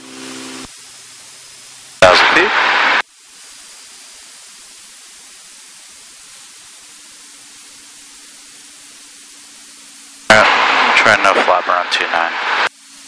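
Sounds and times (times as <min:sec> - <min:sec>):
radio intercom hiss: 0:01.3 - 0:13.0.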